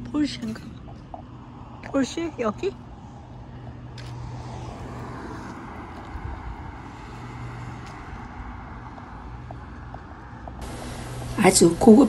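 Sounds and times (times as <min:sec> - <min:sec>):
low steady hum: 0:00.0 - 0:12.0
traffic rumble: 0:00.0 - 0:12.0.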